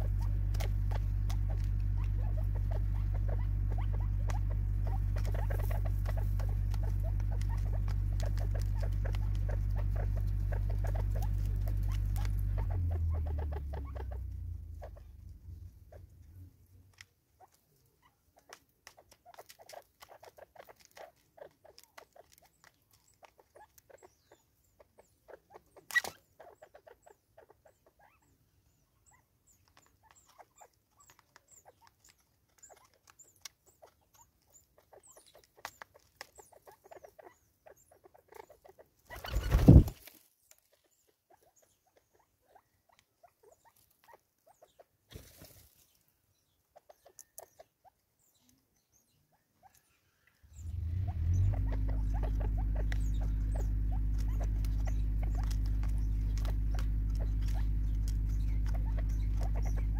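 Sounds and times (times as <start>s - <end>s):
bird pecking and scratching: 0.0s - 28.1s, 28.7s - 48.6s, 49.6s - 59.9s.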